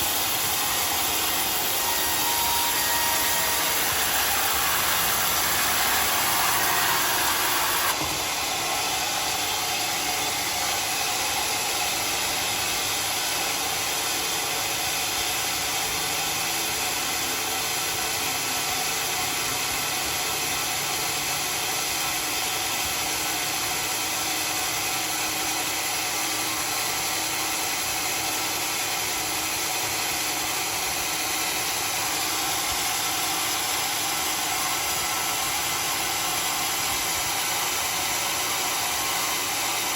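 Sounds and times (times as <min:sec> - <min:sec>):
sawmill whirring: 0:00.0 - 0:39.9.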